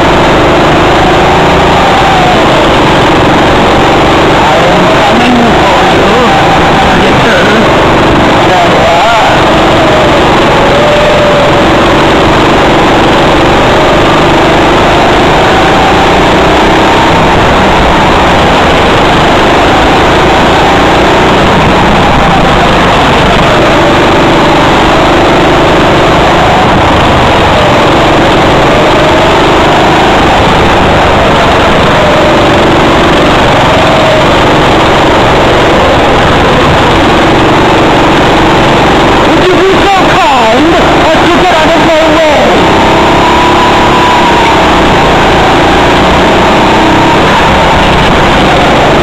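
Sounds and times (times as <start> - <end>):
go-kart engine racing: 0.0 - 49.0.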